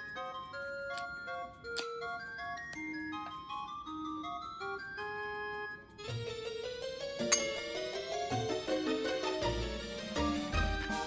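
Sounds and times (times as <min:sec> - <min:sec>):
light melodic tune with bass: 0:00.0 - 0:11.0.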